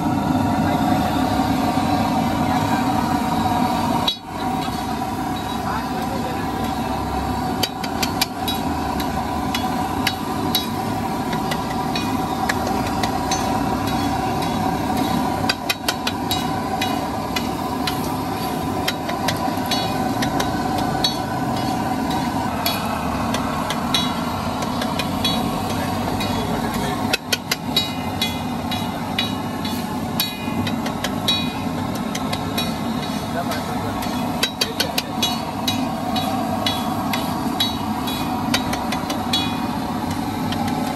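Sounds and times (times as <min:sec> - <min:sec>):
steady background hum: 0:00.0 - 0:40.9.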